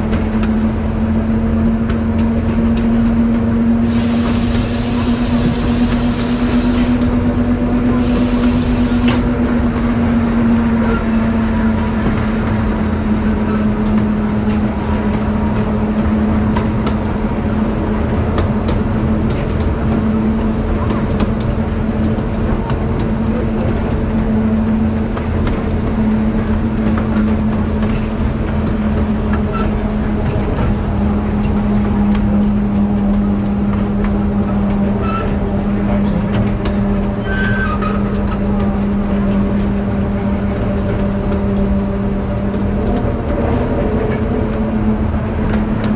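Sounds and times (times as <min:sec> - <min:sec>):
diesel locomotive engine droning: 0:00.0 - 0:45.9
train wheels rumbling on track: 0:00.0 - 0:45.9.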